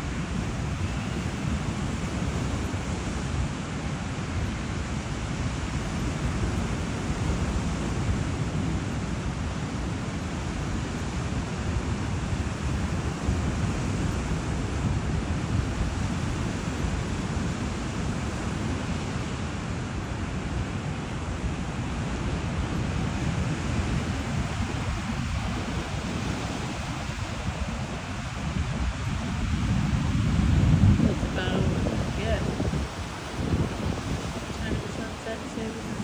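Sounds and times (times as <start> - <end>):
ocean surf washing on a beach: 0.0 - 36.0
wind buffeting the microphone: 0.0 - 36.0.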